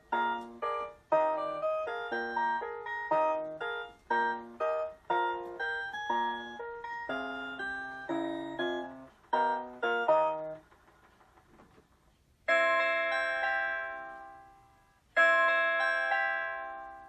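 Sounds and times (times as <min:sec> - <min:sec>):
wall clock electronic melody: 0:00.0 - 0:11.2, 0:12.4 - 0:17.0.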